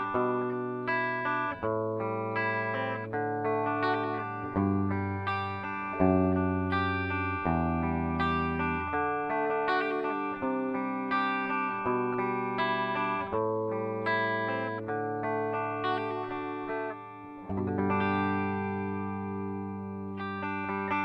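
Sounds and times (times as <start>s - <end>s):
clean electric guitar: 0.0s - 21.0s.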